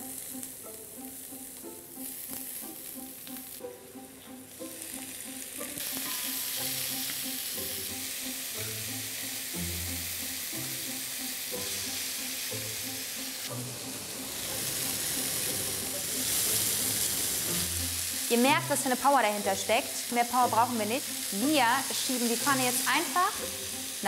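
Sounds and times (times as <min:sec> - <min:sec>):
chicken sizzling in a frying pan: 0:00.0 - 0:03.6, 0:04.7 - 0:24.0.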